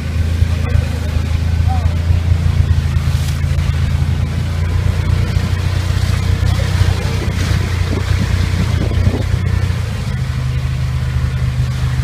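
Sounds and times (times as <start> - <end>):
utility vehicle engine running: 0.0 - 12.0.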